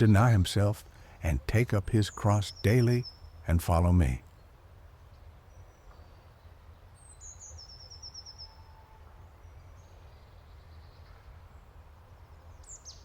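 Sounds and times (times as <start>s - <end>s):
songbird calling and trilling: 0.0s - 4.5s, 5.1s - 13.0s.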